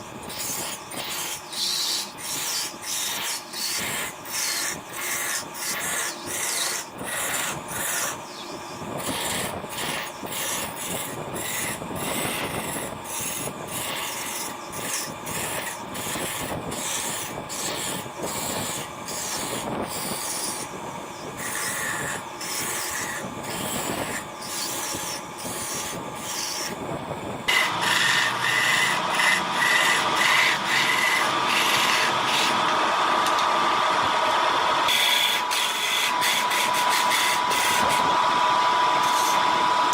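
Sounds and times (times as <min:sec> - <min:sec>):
lathe tool cutting wood: 0:00.0 - 0:26.8, 0:27.4 - 0:39.9
steady whine: 0:00.0 - 0:39.9.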